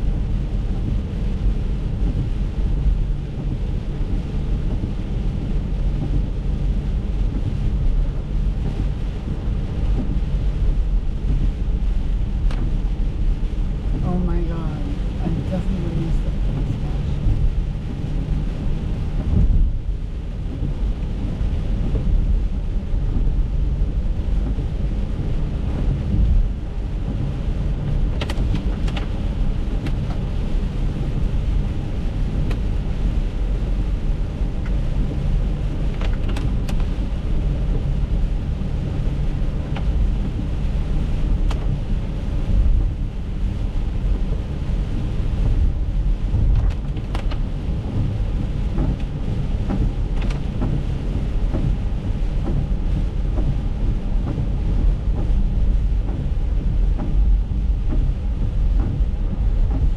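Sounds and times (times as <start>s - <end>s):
tyre rumble on wet road: 0.0s - 59.9s.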